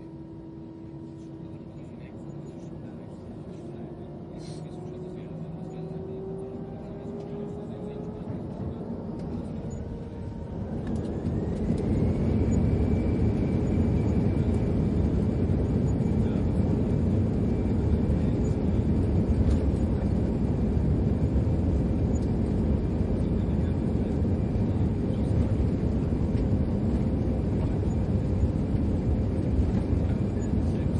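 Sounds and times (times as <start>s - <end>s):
jet engines spooling up: 0.0s - 30.9s.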